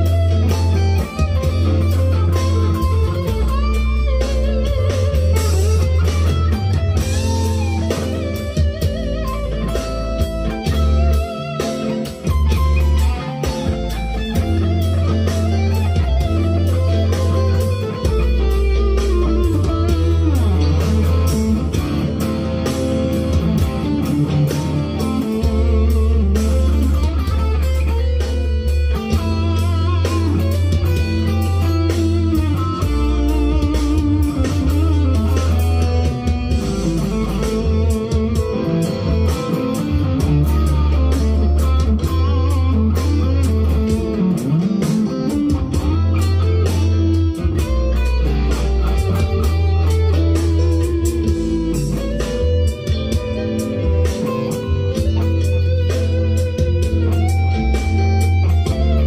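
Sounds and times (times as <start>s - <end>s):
bass line: 0.0s - 59.0s
drums: 0.0s - 59.0s
electric guitar lead with bends: 0.0s - 59.0s.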